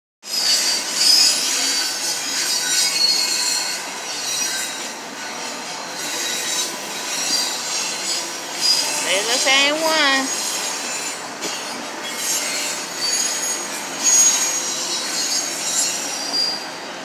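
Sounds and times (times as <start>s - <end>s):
freight train rolling: 0.2s - 17.0s
train wheels squealing on rails: 0.2s - 17.0s.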